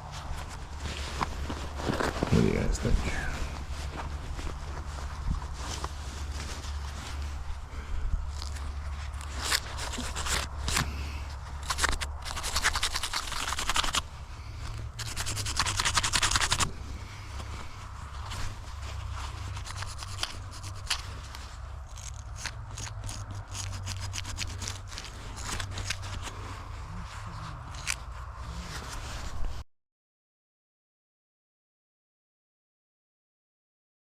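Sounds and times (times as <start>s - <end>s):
hand tool scraping soil: 0.0s - 29.6s.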